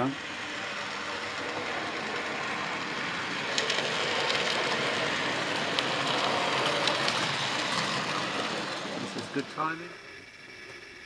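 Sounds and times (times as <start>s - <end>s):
model train rolling rumble: 0.0s - 11.0s
sharp track clicks: 0.1s - 9.8s.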